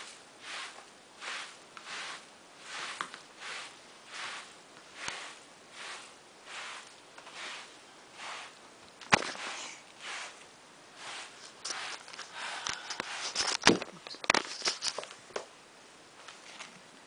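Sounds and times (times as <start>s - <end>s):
soft rustling and scratching: 0.0s - 15.2s.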